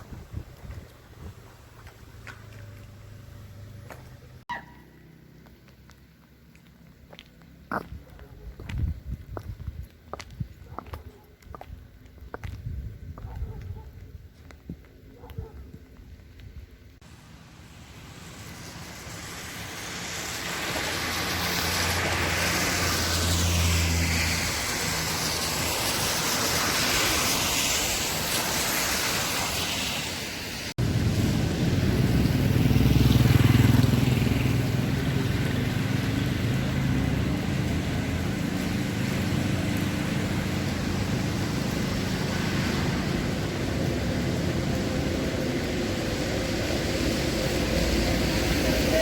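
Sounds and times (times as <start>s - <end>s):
vehicle hiss and rumble: 0.0s - 10.6s, 16.1s - 49.0s.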